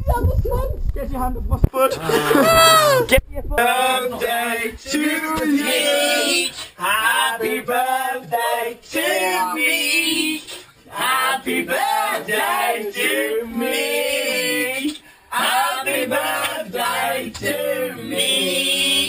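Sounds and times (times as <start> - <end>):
man and woman singing together: 3.6 - 19.0.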